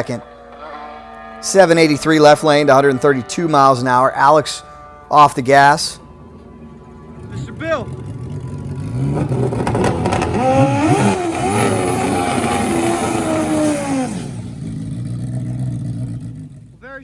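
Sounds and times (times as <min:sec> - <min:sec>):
racing engine revving: 0:00.0 - 0:16.8.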